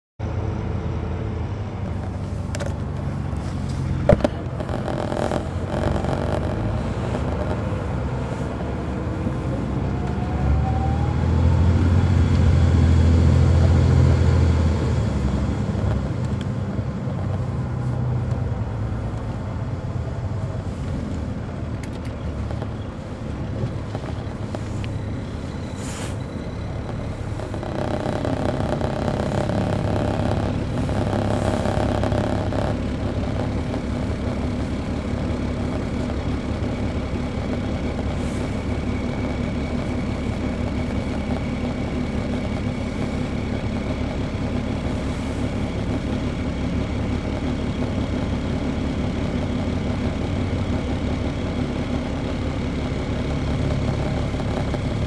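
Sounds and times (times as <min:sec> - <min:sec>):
diesel bus engine running: 0:00.0 - 0:55.0.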